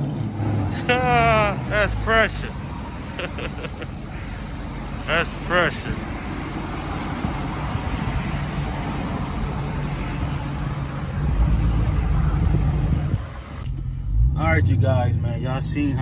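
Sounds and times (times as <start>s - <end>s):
deep raspy car exhaust drone: 0.0s - 16.0s.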